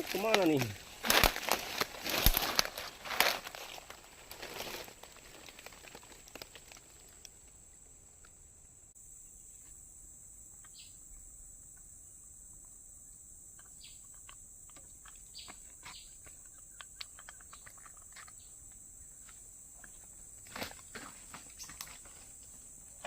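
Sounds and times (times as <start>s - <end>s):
insect chirps and clicks: 0.0s - 23.0s.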